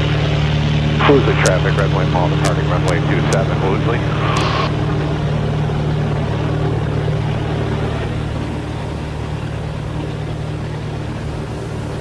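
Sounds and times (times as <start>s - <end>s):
plane engine and propeller drone: 0.0s - 12.0s.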